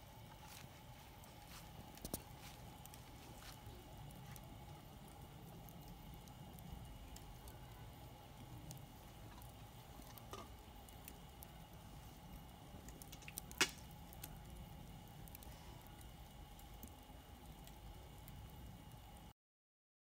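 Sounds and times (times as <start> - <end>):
campfire crackling: 0.0 - 19.3
low steady rumble: 0.0 - 19.3.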